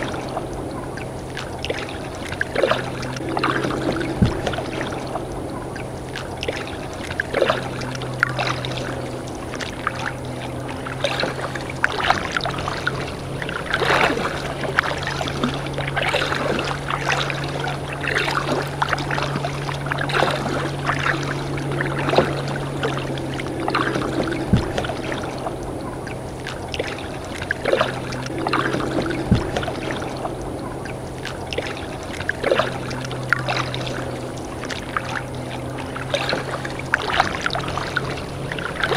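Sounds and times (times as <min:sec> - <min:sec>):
small water splashes: 0:00.0 - 0:38.9
steady low hum: 0:00.0 - 0:38.9
water lapping and dripping: 0:00.0 - 0:38.9.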